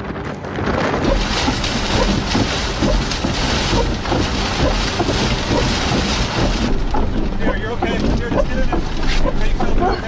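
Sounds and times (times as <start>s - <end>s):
storm wind buffeting microphone: 0.0s - 10.0s.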